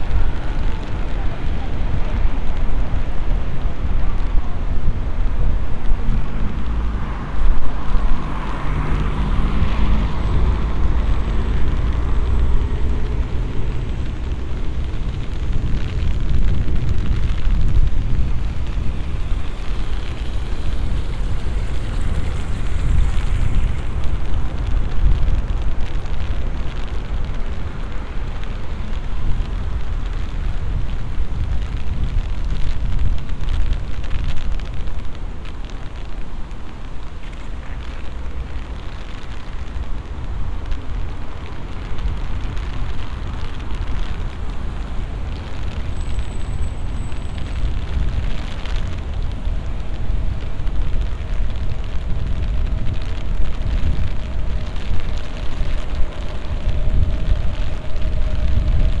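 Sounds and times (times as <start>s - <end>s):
faint patter of raindrops: 0.0s - 59.0s
heavy rain rumble: 0.0s - 59.0s.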